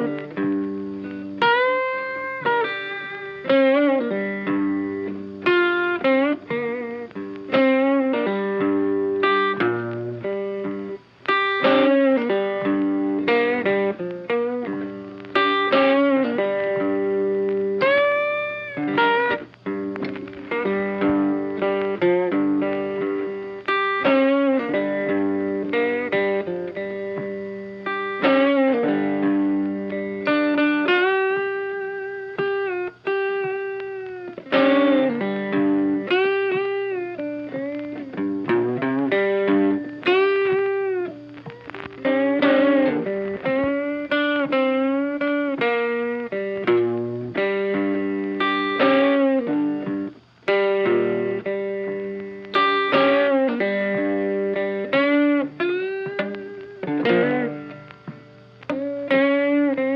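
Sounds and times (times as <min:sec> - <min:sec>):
funky electric guitar music: 0:00.0 - 0:59.9.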